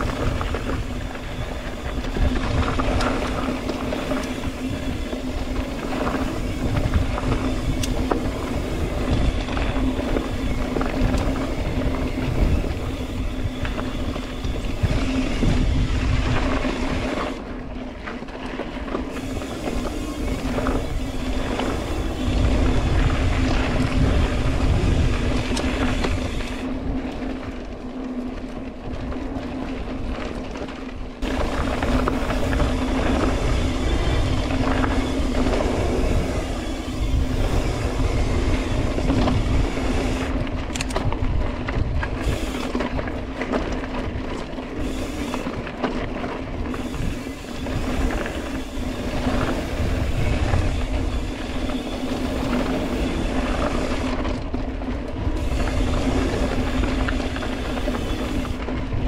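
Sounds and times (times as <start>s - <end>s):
wind buffeting microphone: 0.0s - 30.4s, 31.0s - 59.0s
mountain bike riding on dirt: 0.0s - 59.0s.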